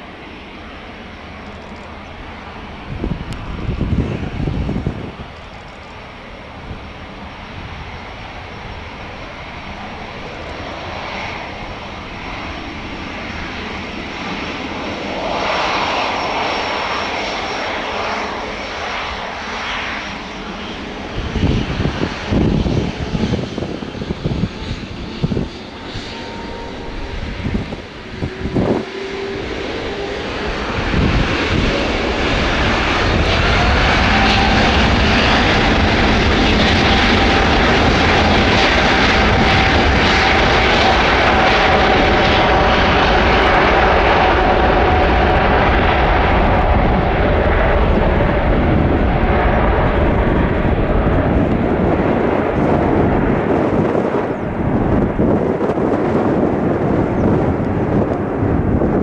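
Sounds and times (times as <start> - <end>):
jet engines passing close: 0.0 - 59.0.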